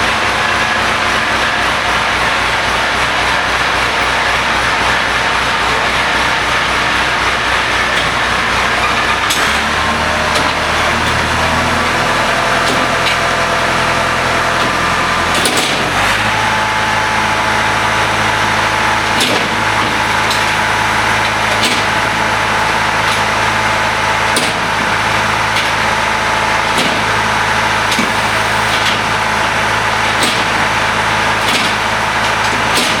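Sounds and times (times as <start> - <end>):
wood chipper engine running: 0.0 - 33.0.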